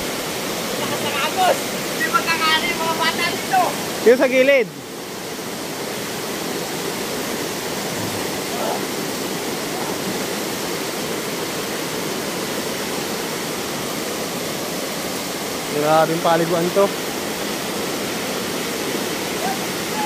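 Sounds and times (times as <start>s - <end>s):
creek water flowing: 0.0s - 20.0s.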